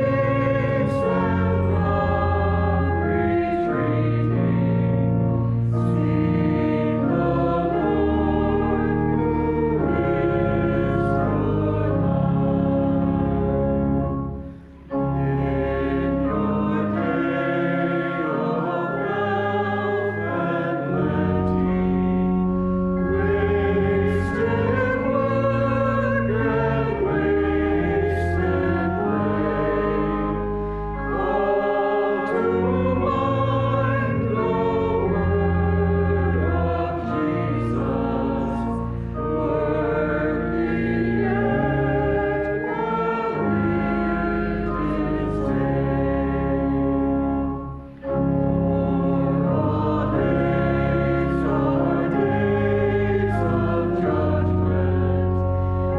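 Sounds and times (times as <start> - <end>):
congregation and choir singing a hymn: 0.0 - 55.9
instrumental accompaniment: 0.0 - 55.9.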